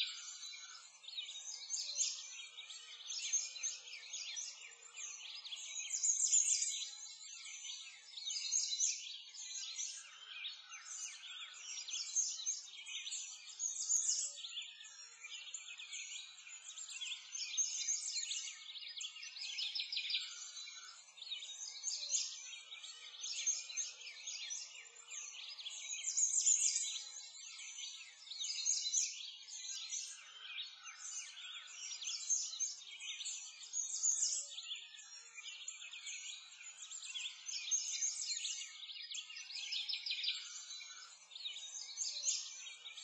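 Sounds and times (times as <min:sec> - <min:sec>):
songbirds chirping and trilling: 0:00.0 - 0:43.0.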